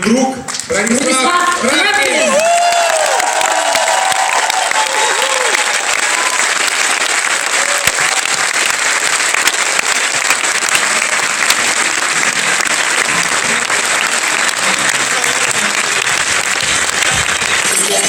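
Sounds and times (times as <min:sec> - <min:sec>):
large audience applauding: 0:00.0 - 0:18.0.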